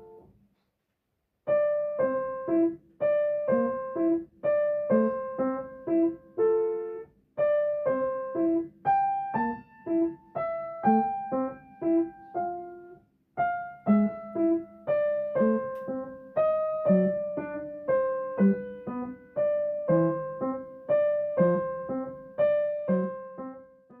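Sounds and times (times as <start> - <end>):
piano melody: 0.0 - 0.3, 1.5 - 24.0.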